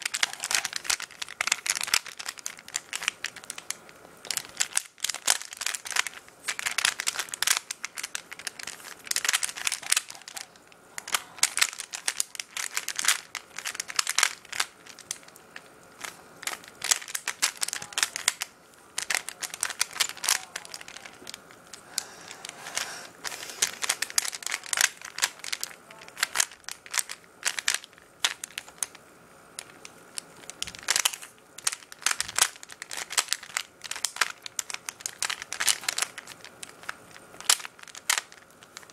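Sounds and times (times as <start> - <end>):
puzzle cube plastic clicks: 0.0 - 38.9.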